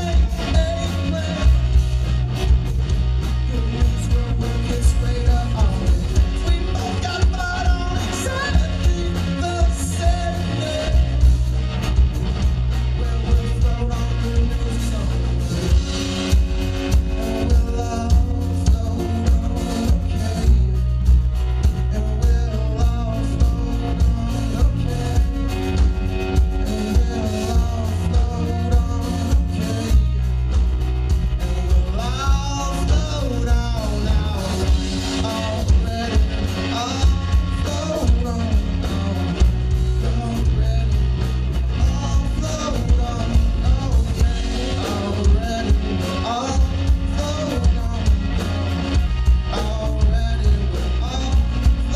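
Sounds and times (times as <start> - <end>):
person singing: 0.0 - 30.6, 31.3 - 51.9
bass guitar: 0.0 - 51.9
drum kit steady beat: 0.0 - 51.9
electric guitar: 0.0 - 51.9.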